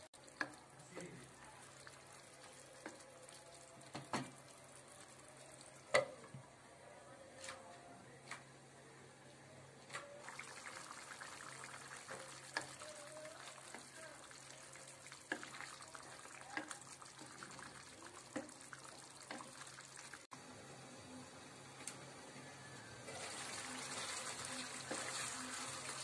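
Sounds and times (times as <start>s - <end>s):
sauce bubbling and sizzling: 0.0s - 6.3s, 10.1s - 22.3s, 23.0s - 26.0s.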